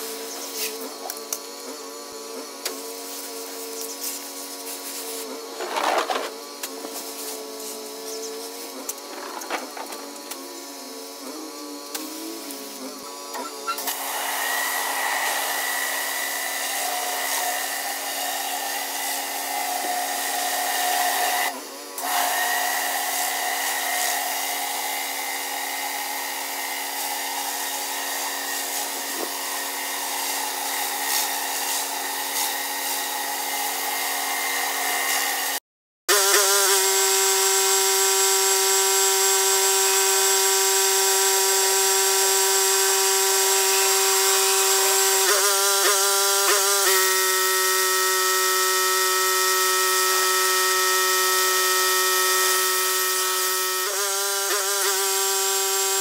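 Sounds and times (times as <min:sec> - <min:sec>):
pressure washer spraying concrete: 0:00.0 - 0:56.0.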